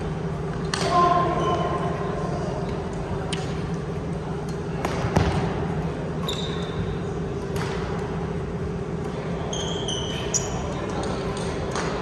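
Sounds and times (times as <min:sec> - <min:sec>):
low hum in hall: 0:00.0 - 0:12.0.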